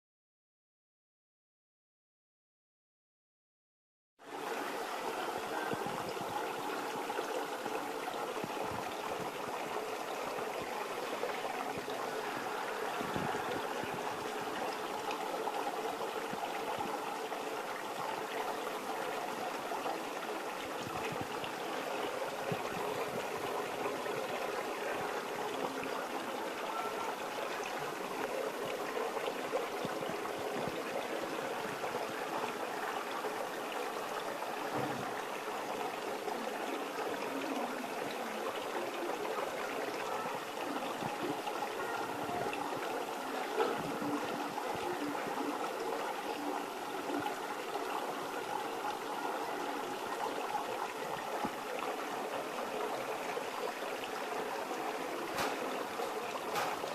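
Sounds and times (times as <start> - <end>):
running water: 4.2 - 56.9.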